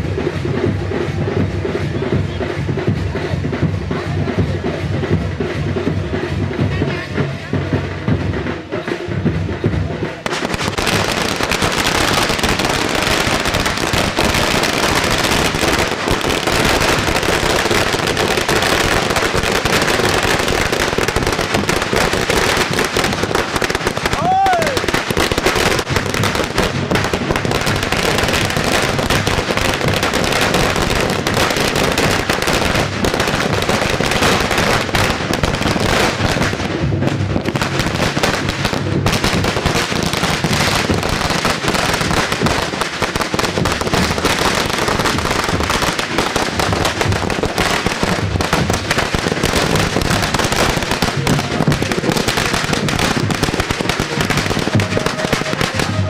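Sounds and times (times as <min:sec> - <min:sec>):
firecrackers crackling: 0:00.0 - 0:56.0.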